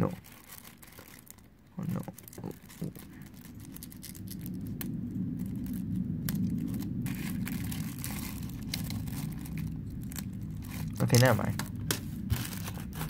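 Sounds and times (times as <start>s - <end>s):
low steady rumble: 0.0s - 13.0s
paper rustling: 0.0s - 13.0s.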